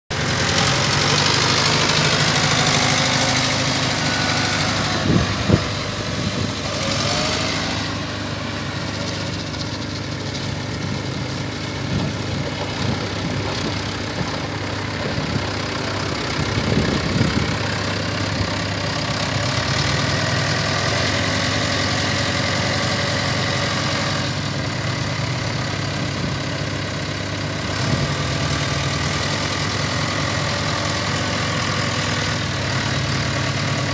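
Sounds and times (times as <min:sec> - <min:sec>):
tractor diesel engine: 0:00.1 - 0:33.9.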